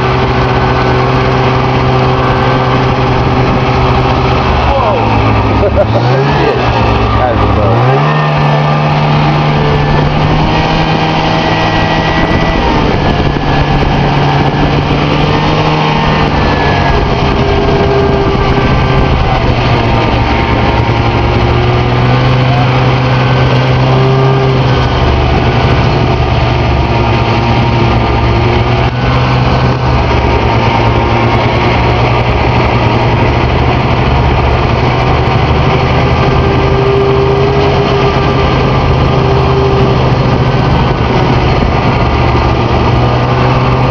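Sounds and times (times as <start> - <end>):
snowmobile engine running: 0.0 - 43.9.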